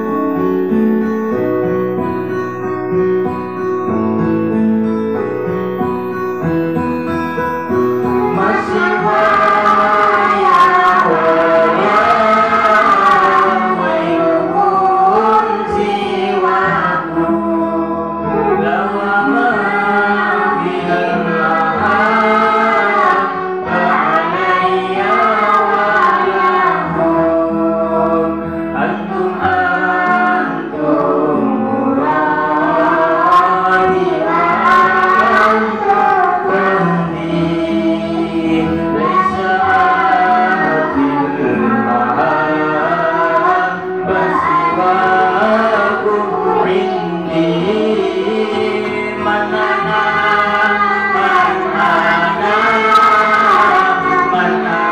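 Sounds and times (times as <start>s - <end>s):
children singing into microphones: 8.0s - 54.9s.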